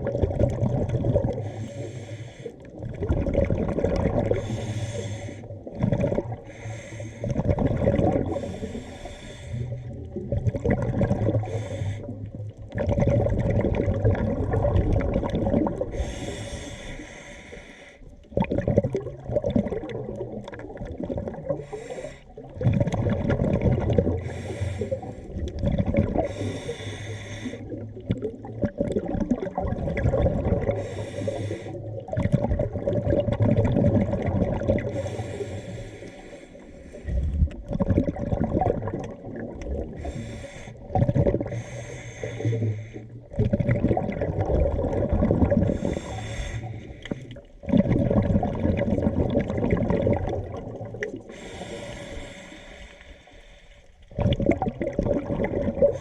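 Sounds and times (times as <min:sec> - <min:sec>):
exhaled bubbles rushing: 0:00.0 - 0:01.7, 0:02.6 - 0:08.7, 0:09.6 - 0:16.7, 0:18.1 - 0:26.8, 0:27.4 - 0:36.1, 0:36.7 - 0:52.4, 0:54.0 - 0:56.0.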